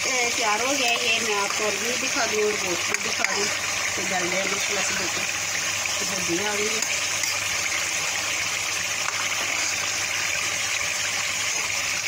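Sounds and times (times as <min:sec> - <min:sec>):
cooking pot hiss: 0:00.0 - 0:12.0.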